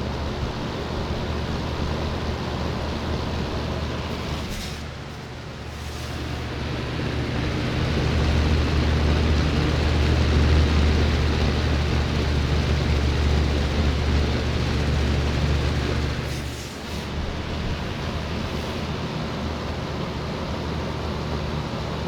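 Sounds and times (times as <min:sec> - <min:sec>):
box fan running: 0:00.0 - 0:22.0.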